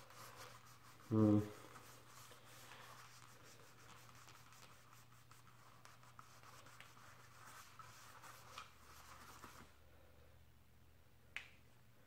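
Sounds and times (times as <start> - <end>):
paper towel rubbing and rustling: 0.0 - 9.7.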